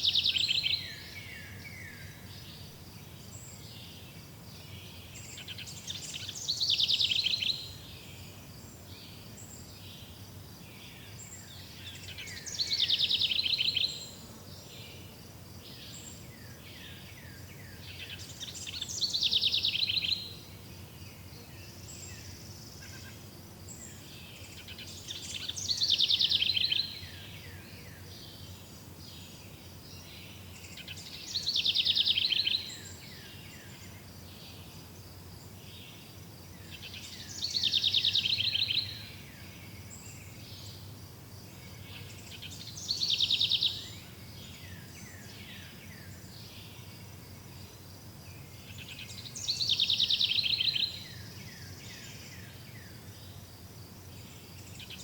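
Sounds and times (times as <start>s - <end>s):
faint high insect drone: 0.0s - 55.0s
songbird singing: 0.0s - 55.0s.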